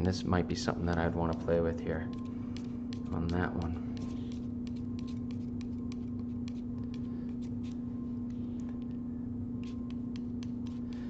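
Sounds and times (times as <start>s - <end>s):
steady low hum: 0.0s - 11.0s
palette knife scraping and tapping: 0.7s - 8.8s, 9.6s - 11.0s.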